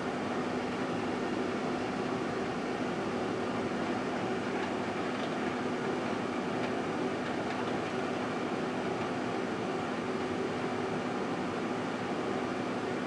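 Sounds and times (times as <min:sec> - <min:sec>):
fan noise: 0:00.0 - 0:13.0
microwave oven hum: 0:00.0 - 0:13.0.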